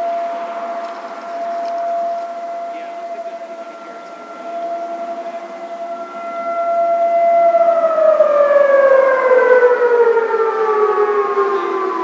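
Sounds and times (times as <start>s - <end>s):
air raid siren winding down: 0.0s - 12.0s.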